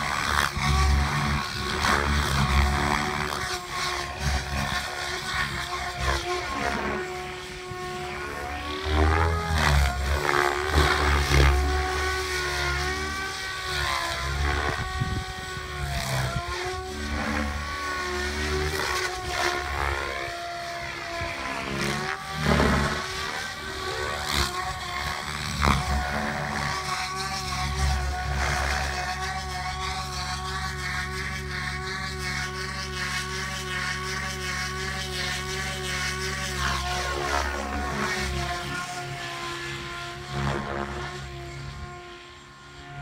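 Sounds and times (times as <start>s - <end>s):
model airplane engine: 0.0s - 43.0s.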